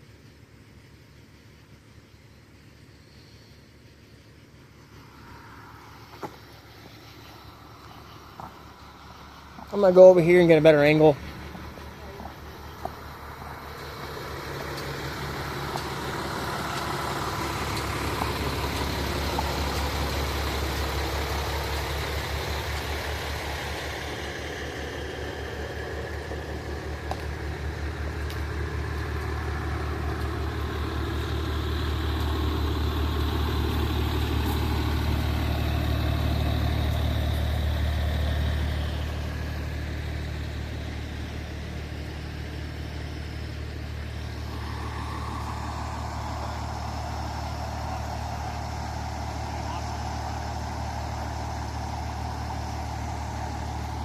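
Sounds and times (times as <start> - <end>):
large vehicle engine idling: 0.0 - 54.0.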